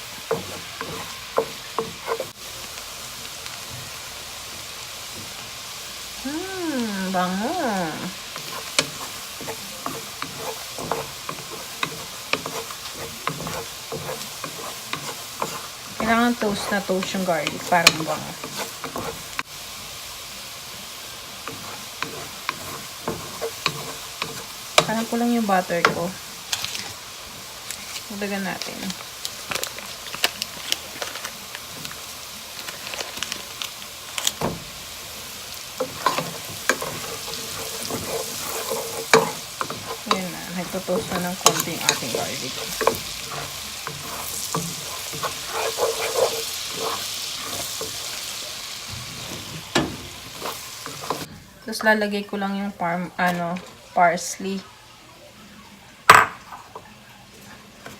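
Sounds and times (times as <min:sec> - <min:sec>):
utensil stirring in a pan: 0:00.0 - 0:54.7
garlic sizzling in butter: 0:00.0 - 0:57.9.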